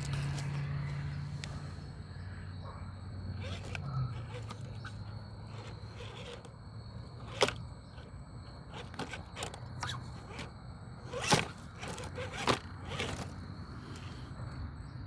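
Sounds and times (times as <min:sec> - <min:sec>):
toy car tires scraping and knocking: 0:00.0 - 0:01.7, 0:03.1 - 0:15.0
low motor hum: 0:00.0 - 0:15.0.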